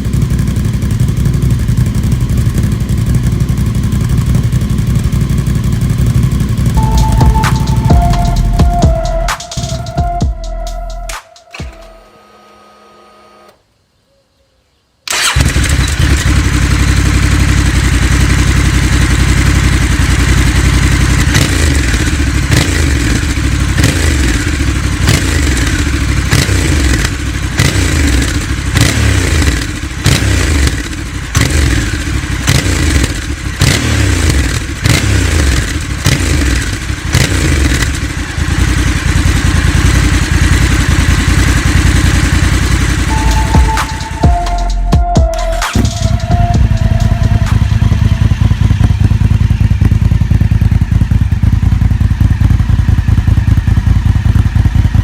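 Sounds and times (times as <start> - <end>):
motorcycle engine revving: 0.0 - 9.6, 15.1 - 44.5, 45.6 - 55.0.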